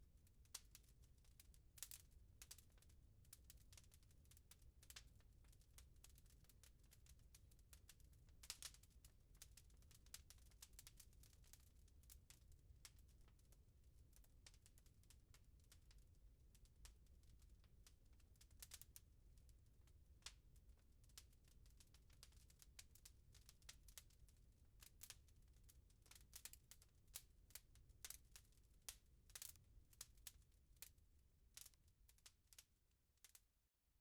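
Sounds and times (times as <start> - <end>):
wood fire crackling: 0.5 - 0.9, 1.8 - 14.7, 16.5 - 33.4.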